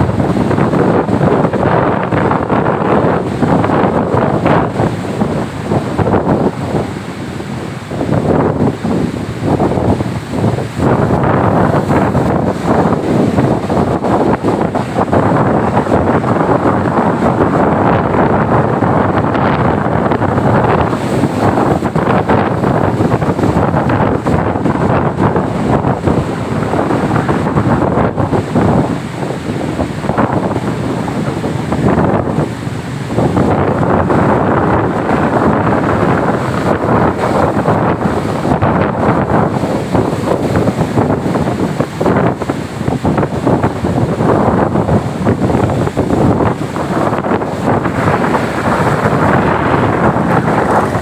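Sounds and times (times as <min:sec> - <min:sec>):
heavy surf rushing: 0:00.0 - 0:51.0
wind buffeting microphone: 0:00.0 - 0:51.0.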